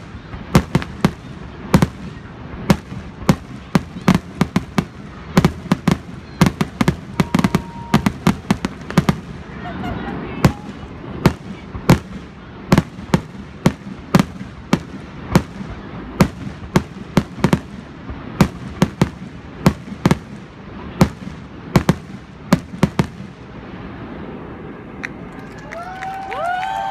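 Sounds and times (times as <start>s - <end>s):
fireworks bursting: 0.0s - 26.9s.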